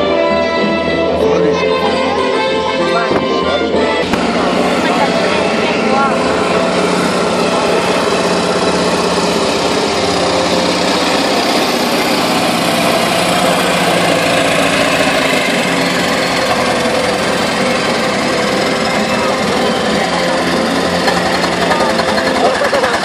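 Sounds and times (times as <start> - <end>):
monster truck engine: 0.0 - 23.0.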